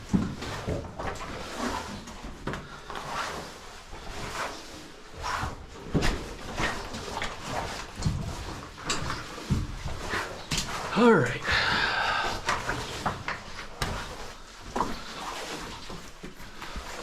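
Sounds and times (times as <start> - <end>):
scrapes and knocks in a cave: 0.0 - 17.0.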